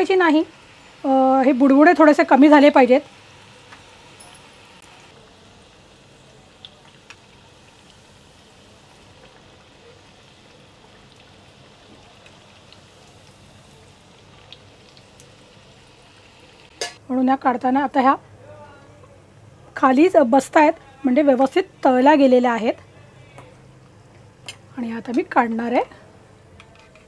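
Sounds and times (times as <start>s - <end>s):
oil sizzling and bubbling: 0.0s - 27.0s.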